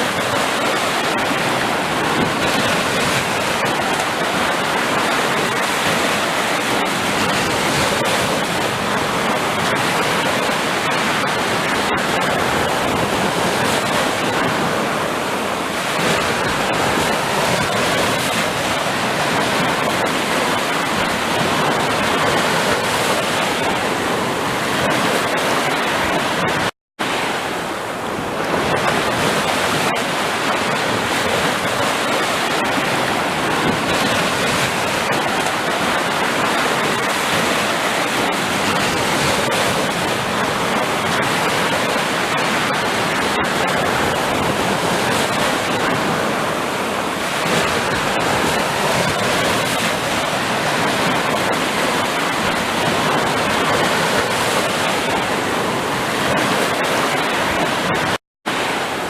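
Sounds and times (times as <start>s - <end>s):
waves washing on shore: 0.0s - 59.0s.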